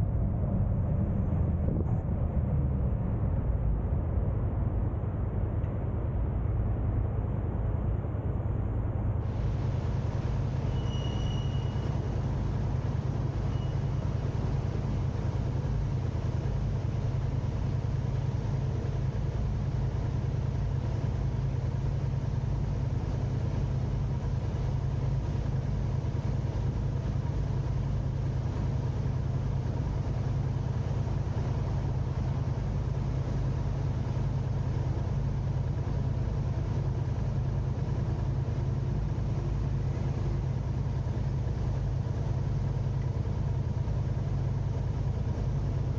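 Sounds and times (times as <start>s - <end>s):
car engine rumble: 0.0s - 45.9s
faint constant hum: 0.0s - 45.9s
road noise: 0.0s - 45.9s.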